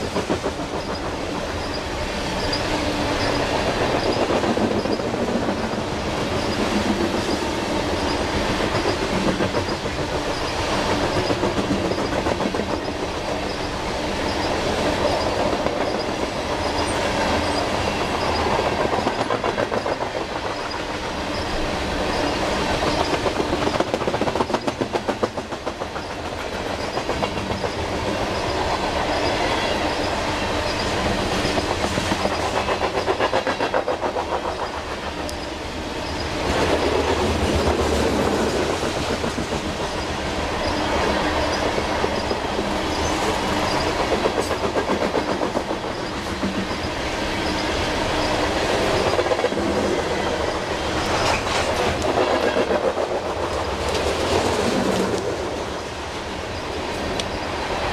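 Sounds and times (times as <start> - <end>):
train wagons rumbling on rails: 0.0 - 57.9
wheels clickety-clack on track: 0.0 - 57.9.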